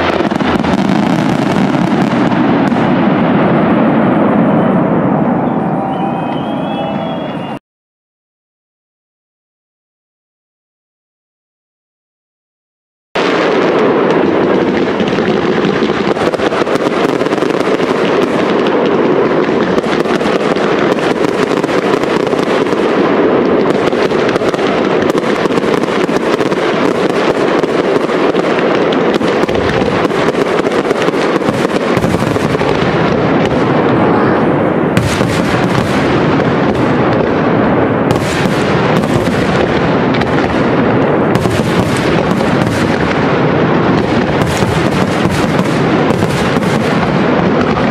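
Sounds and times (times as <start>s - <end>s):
sharp firework bangs: 0.0s - 7.2s, 13.2s - 47.9s
fireworks bursting and crackling: 0.0s - 7.6s, 13.2s - 47.9s.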